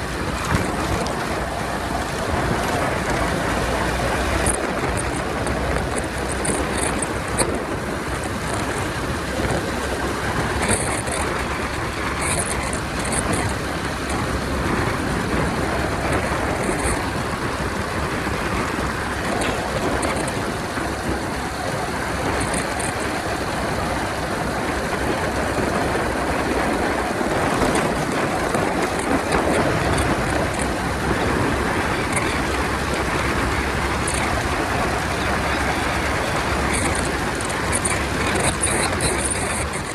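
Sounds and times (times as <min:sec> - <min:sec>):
motorcycle engine and road noise: 0:00.0 - 0:39.9
wind rushing over microphone: 0:00.0 - 0:39.9.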